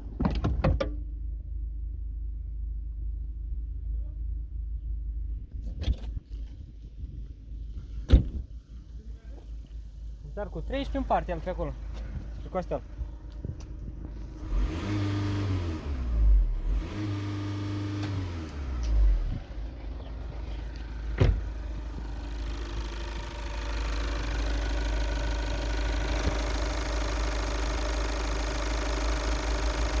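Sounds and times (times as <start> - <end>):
turbodiesel engine: 0.0 - 30.0.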